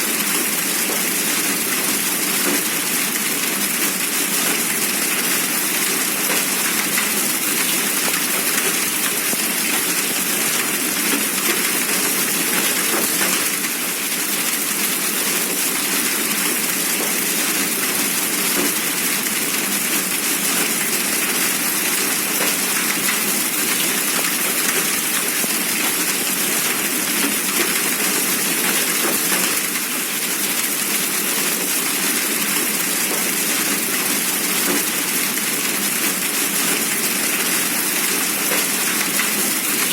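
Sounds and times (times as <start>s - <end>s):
hail and rain pelting down: 0.0s - 39.9s.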